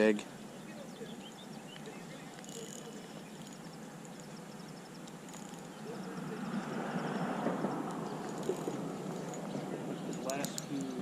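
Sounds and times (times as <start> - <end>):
vehicle rumbling over bridge: 0.0 - 11.0.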